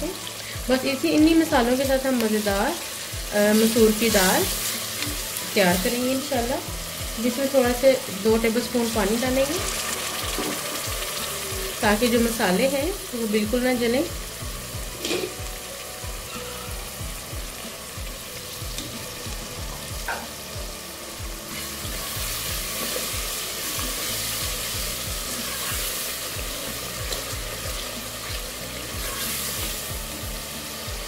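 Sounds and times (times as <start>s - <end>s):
spices sizzling in oil: 0.0s - 31.0s.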